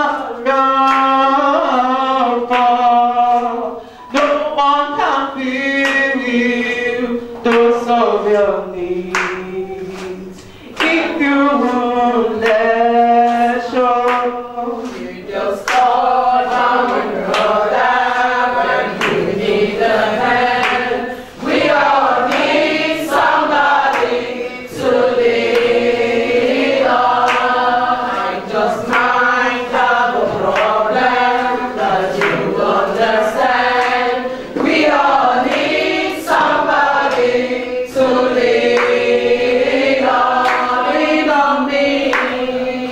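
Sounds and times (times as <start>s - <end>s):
women singing together: 0.0s - 42.9s.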